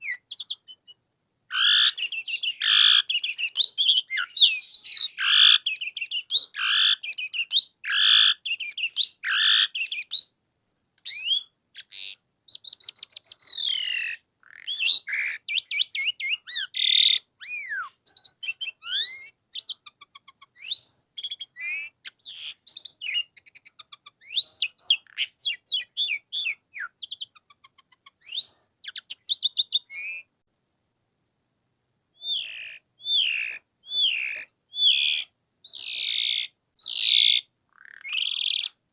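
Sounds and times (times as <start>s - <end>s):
starling singing: 0.0s - 10.4s, 11.0s - 30.3s, 32.2s - 38.8s.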